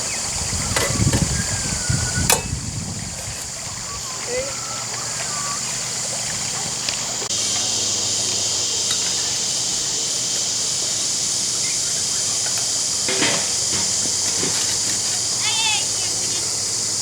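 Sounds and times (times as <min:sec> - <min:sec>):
concrete mixer motor hum: 0:00.0 - 0:17.0.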